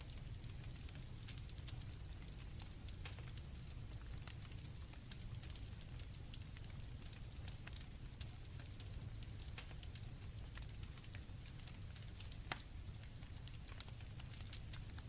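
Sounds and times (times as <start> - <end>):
campfire crackling and popping: 0.0 - 15.0
crickets trilling: 0.0 - 15.0
low rumble of flames: 0.0 - 15.0.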